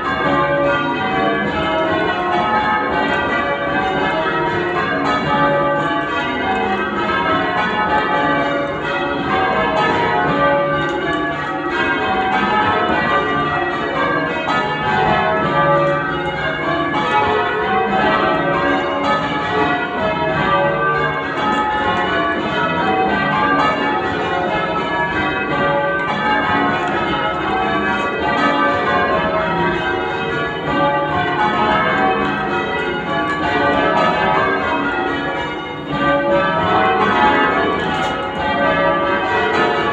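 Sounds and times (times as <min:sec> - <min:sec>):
church bells ringing changes: 0:00.0 - 0:39.9.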